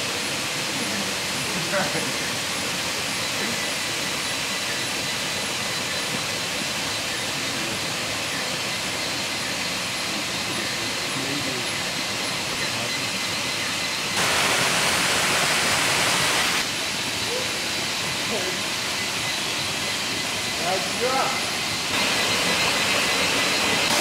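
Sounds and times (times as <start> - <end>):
small waterfall rushing: 0.0 - 13.4, 14.1 - 24.0.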